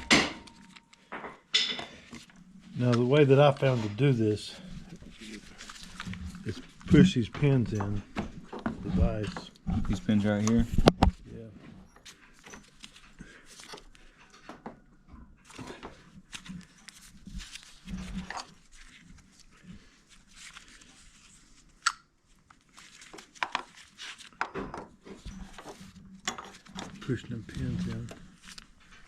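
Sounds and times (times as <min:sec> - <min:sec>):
scraping and rustling hand work: 0:00.0 - 0:29.0.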